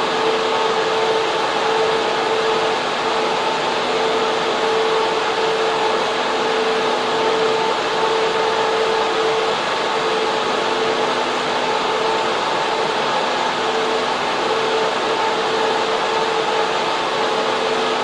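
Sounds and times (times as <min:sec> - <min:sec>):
constant whine: 0:00.0 - 0:18.0
server fans rushing hum: 0:00.0 - 0:18.0.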